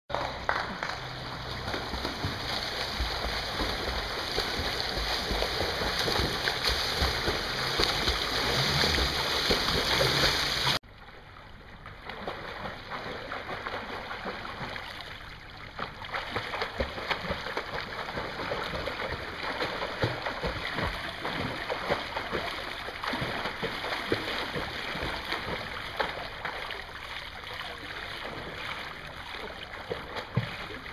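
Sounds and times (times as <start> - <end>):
swimmer splashing in pool: 0.1 - 10.8, 11.8 - 30.9.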